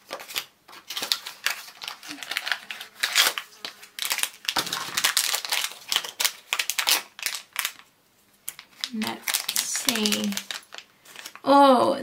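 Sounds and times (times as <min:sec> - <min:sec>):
packaging crinkling and tearing: 0:00.0 - 0:11.5.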